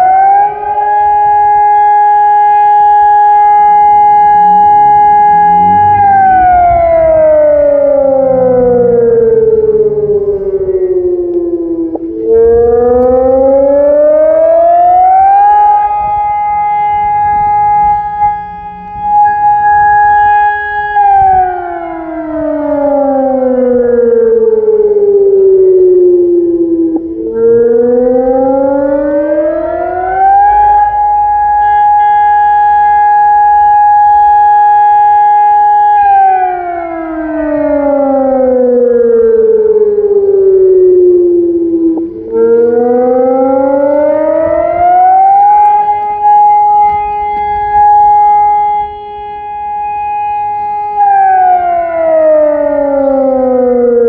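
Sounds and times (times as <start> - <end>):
electronic siren two-note wail: 0.0 - 54.0.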